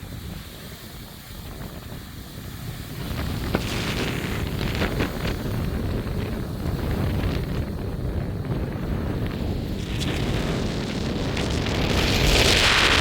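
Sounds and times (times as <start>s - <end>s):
wind gusts buffeting microphone: 0.0s - 13.0s.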